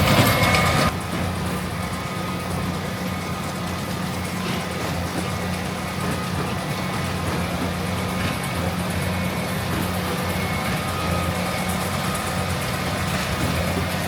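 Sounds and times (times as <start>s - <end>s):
farm machinery diesel engine drone: 0.0s - 14.0s.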